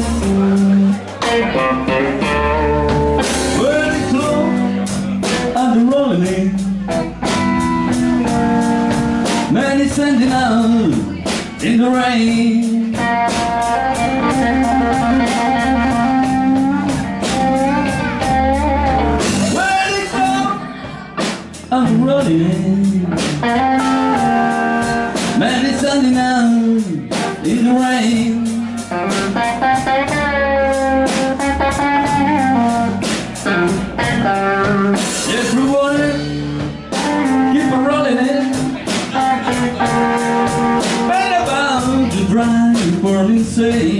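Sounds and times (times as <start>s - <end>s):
person singing: 0.0s - 7.3s, 9.2s - 43.9s
electric guitar fill: 0.0s - 11.4s, 12.7s - 26.2s, 26.8s - 43.9s
drum kit: 0.0s - 43.9s
electric bass: 0.0s - 43.9s.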